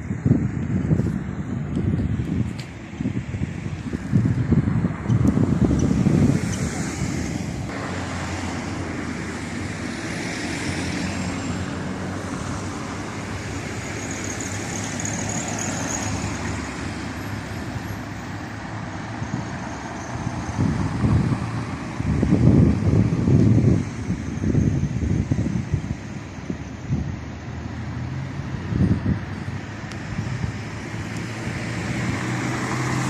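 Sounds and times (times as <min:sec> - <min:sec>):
road traffic noise: 0:00.0 - 0:33.0
vehicle engine hum: 0:00.0 - 0:33.0.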